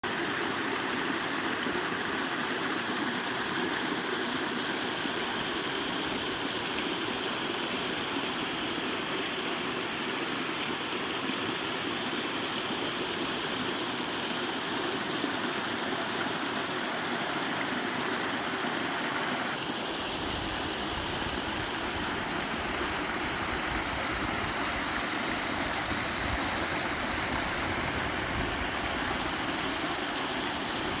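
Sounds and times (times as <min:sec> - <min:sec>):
waterfall rushing water: 0:00.0 - 0:31.0.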